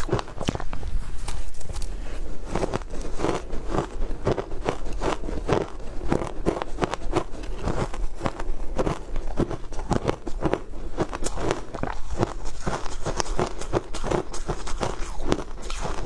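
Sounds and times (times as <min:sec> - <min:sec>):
crunchy chewing of shaved ice: 0:00.0 - 0:16.0.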